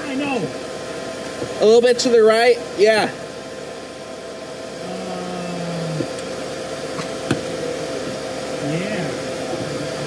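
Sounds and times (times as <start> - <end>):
blower-like hum: 0.0 - 10.0.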